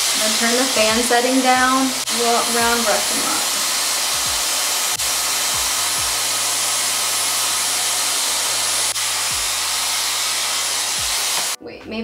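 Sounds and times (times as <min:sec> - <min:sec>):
hair styler blowing air: 0:00.0 - 0:11.6.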